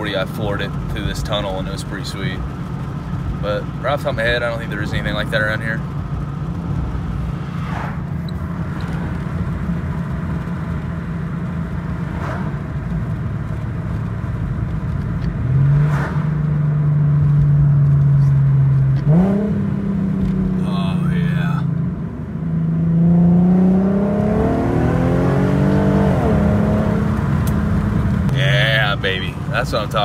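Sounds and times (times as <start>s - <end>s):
car exhaust droning: 0.0s - 30.0s.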